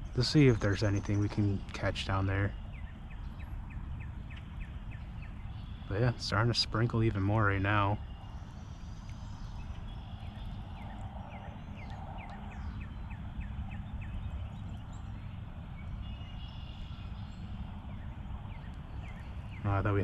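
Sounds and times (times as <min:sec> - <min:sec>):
bird chirping: 0:00.0 - 0:20.0
steady low rumble: 0:00.0 - 0:20.0.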